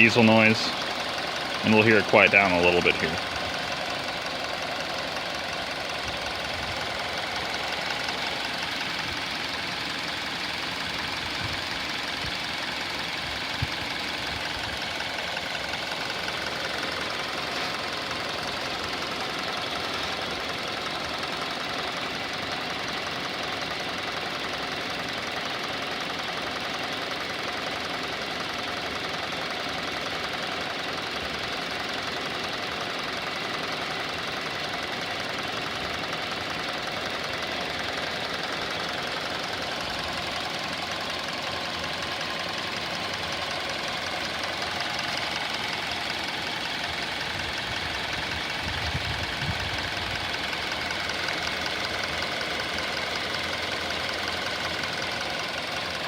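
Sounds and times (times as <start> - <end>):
car engine idling with ticking clatter: 0.0 - 56.0.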